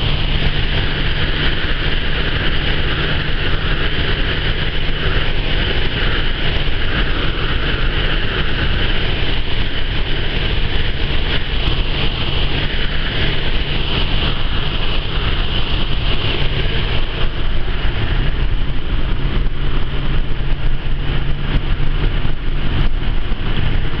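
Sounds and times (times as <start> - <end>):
car engine running: 0.0 - 24.0
road and wind noise: 0.0 - 24.0.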